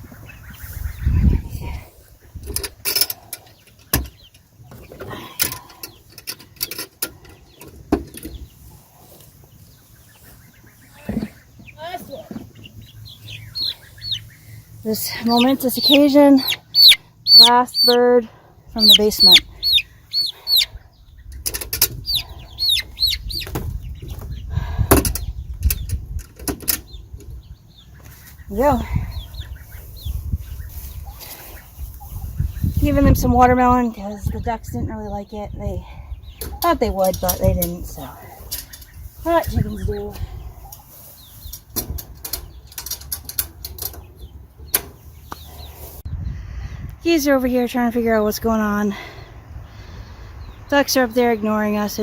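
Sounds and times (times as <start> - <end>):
chickens clucking and peeping: 0.0 - 46.9.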